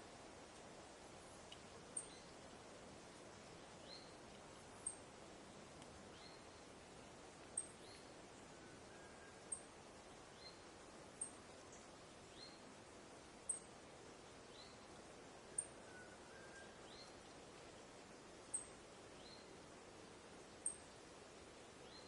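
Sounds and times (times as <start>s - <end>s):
wind in trees: 0.0s - 22.0s.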